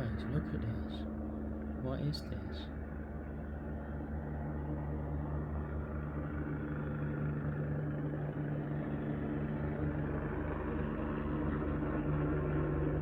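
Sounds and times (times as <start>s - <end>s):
helicopter hovering: 0.0s - 13.0s.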